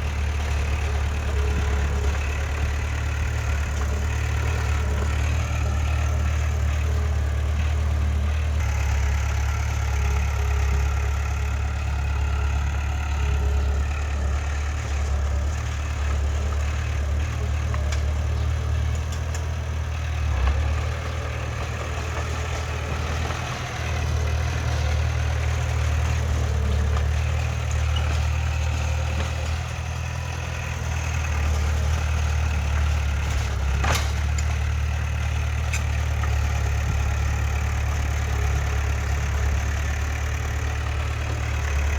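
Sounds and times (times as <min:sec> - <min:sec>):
diesel engine low rumble: 0:00.0 - 0:41.9.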